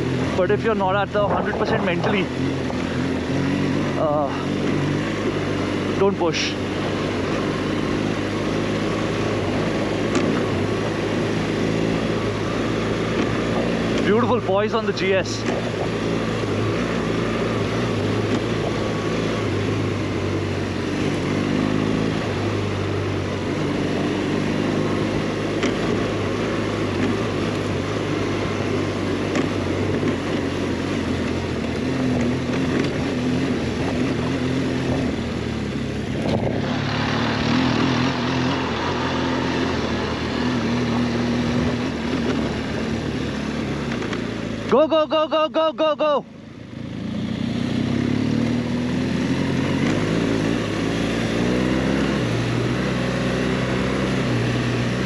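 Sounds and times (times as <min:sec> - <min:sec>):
steady rushing noise: 0:00.0 - 0:44.9
motorcycle engine revving: 0:00.0 - 0:55.0.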